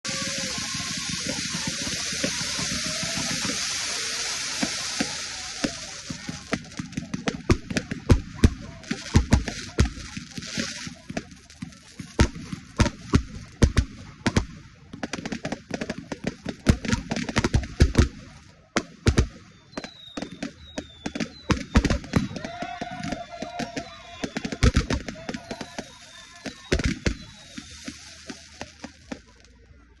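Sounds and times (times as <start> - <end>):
firework cracks and bangs: 0.0 - 29.7
firework hiss: 0.0 - 29.7.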